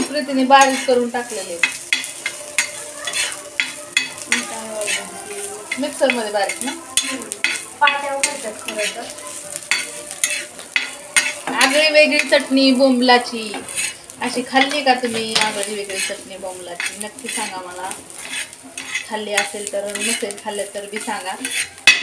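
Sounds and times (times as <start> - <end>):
food sizzling: 0.0 - 22.0
metal spatula scraping griddle: 0.0 - 22.0.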